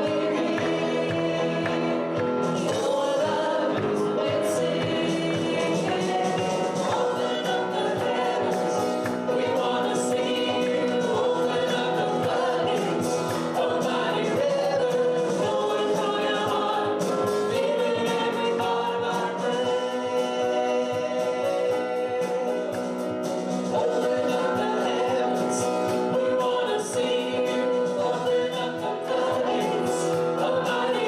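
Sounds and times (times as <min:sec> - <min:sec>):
choir and congregation singing: 0:00.0 - 0:31.0
musical accompaniment with beat: 0:00.0 - 0:31.0.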